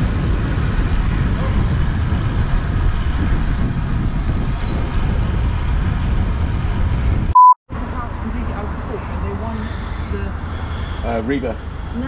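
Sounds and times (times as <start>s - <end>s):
wind buffeting camera microphone: 0.0s - 12.0s.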